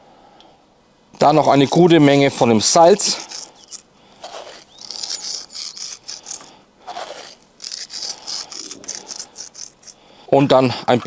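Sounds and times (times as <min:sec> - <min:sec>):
salt grains crackling rustle: 0:01.2 - 0:10.2.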